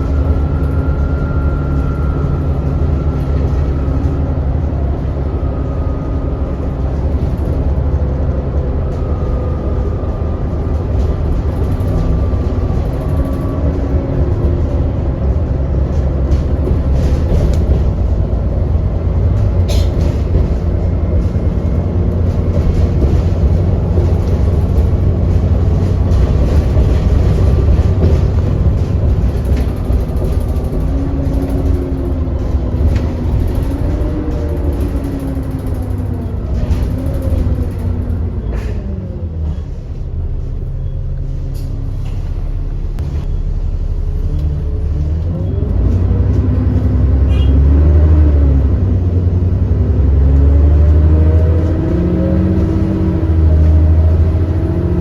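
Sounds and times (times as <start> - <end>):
bus engine rumble: 0.0 - 55.0
whining drivetrain: 0.0 - 55.0.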